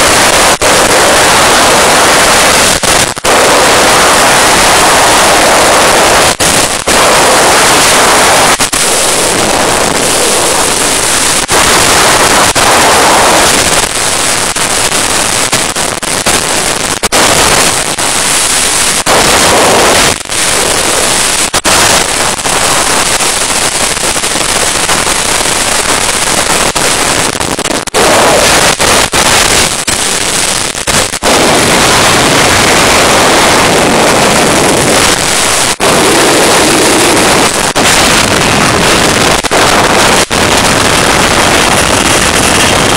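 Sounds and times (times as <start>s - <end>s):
wind blasting over microphone: 0.0s - 42.9s.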